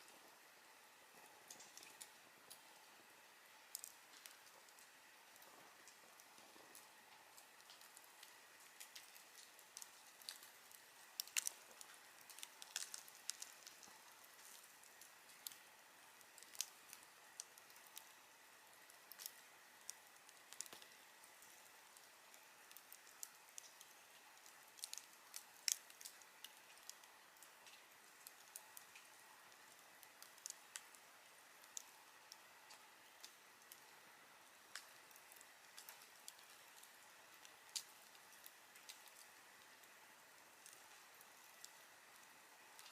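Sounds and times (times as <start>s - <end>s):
faint steady hiss: 0.0s - 42.9s
wood fire crackling: 0.0s - 42.9s.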